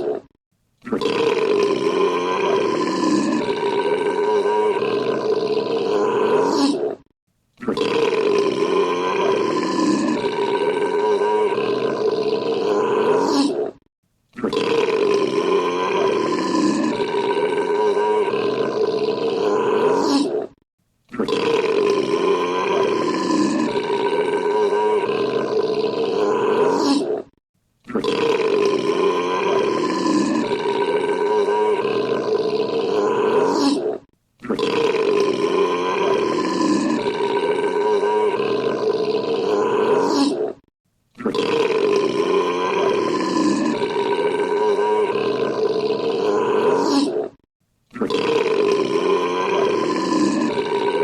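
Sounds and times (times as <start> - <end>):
man belching: 0.8 - 6.6, 7.6 - 13.4, 14.4 - 20.2, 21.1 - 26.9, 27.9 - 33.6, 34.4 - 40.4, 41.2 - 51.0.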